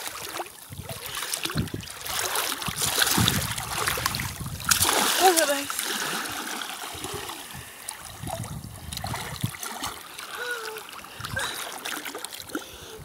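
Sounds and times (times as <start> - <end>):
water dripping and trickling: 0.0 - 5.9, 6.9 - 13.0
sea water splashing: 0.0 - 13.0.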